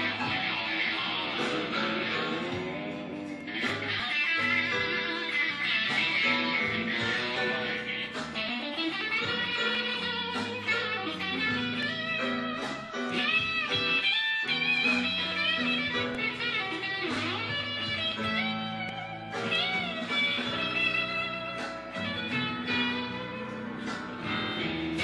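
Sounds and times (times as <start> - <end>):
electric guitar blues solo: 0.0 - 25.0.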